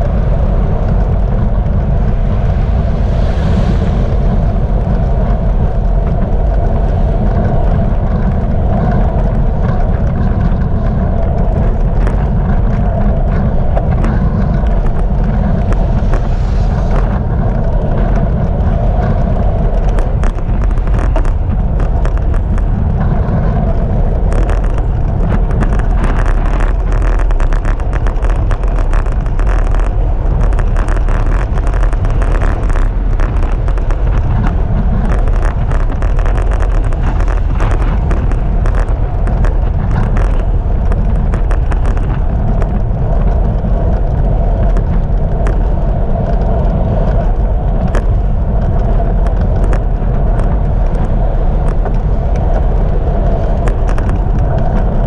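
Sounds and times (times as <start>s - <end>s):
rapid clicks and rattles: 0.0s - 55.0s
tyre and road noise: 0.0s - 55.0s
wind on microphone: 0.0s - 55.0s.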